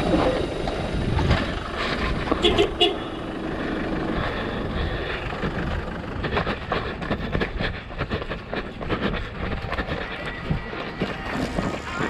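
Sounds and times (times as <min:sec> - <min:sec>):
wind rumbling on microphone: 0:00.0 - 0:02.9, 0:03.5 - 0:12.0
footsteps running on dirt road: 0:00.1 - 0:12.0.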